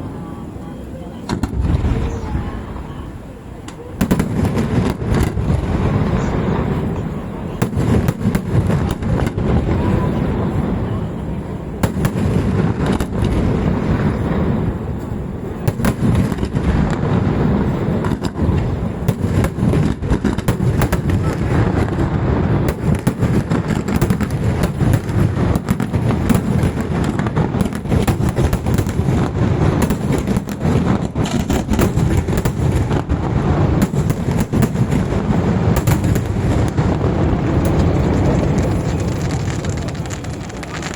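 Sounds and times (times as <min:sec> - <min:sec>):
fireworks bangs: 0:00.0 - 0:40.9
low rumble of explosions: 0:00.0 - 0:40.9.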